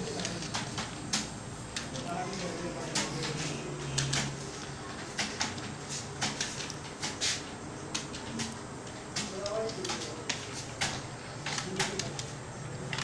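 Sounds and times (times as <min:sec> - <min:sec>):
keyboard keys clicking: 0:00.0 - 0:07.2, 0:07.9 - 0:13.0.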